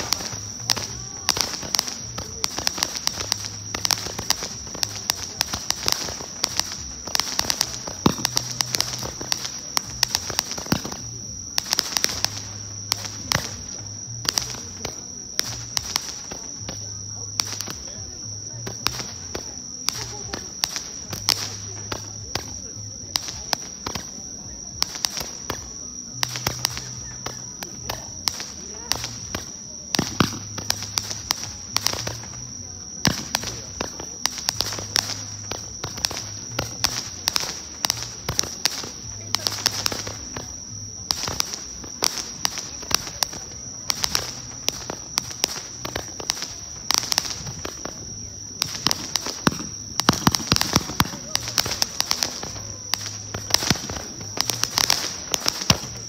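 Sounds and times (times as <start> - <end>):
firework crackling pops: 0.0 - 56.0
high-pitched whine: 0.0 - 56.0.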